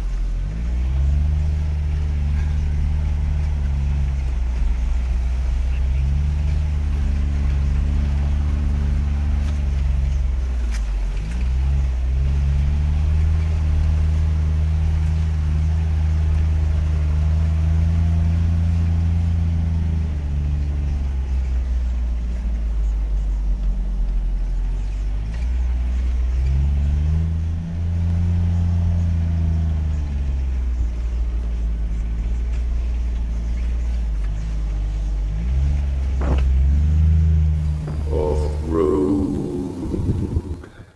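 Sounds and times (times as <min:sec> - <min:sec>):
vehicle engine revving in cab: 0:00.0 - 0:40.9.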